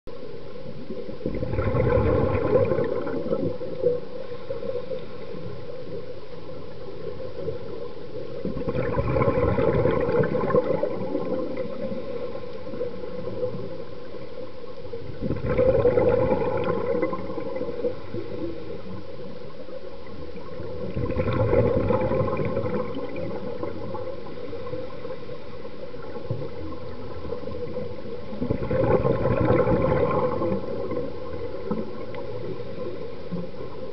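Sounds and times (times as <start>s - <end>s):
exhaled bubbles gurgling: 0.1s - 33.9s.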